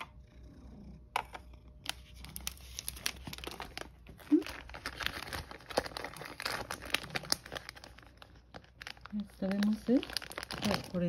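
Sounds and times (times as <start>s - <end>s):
plastic packets crinkling: 1.9s - 11.0s.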